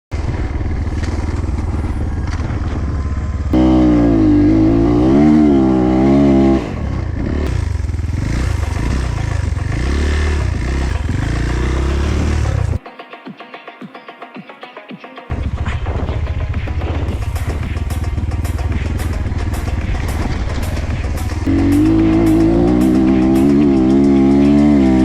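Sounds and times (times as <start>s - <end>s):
dirt bike engine revving: 0.1s - 12.8s, 15.3s - 25.0s.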